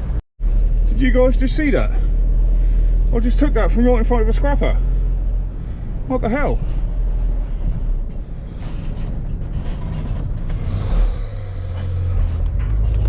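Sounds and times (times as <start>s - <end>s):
road noise: 0.0s - 13.0s
van engine: 0.0s - 13.0s.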